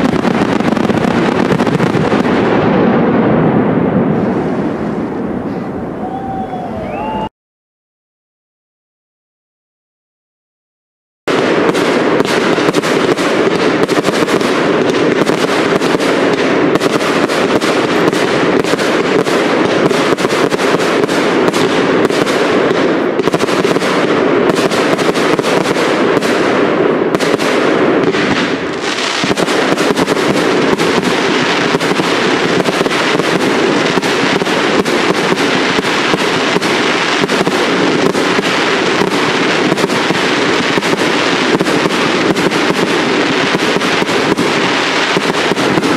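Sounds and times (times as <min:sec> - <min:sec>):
fireworks bangs and crackles: 0:00.0 - 0:07.2, 0:11.3 - 0:45.9.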